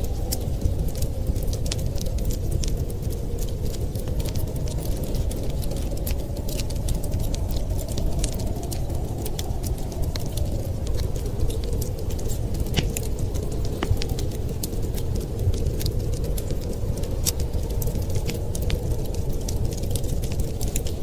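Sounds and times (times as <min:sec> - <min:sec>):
blizzard wind rushing: 0:00.0 - 0:21.0
wood fire crackling and popping: 0:00.0 - 0:21.0.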